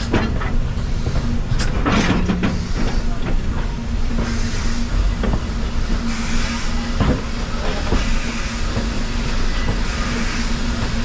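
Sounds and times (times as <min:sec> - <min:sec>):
steam train rumbling: 0:00.0 - 0:11.0.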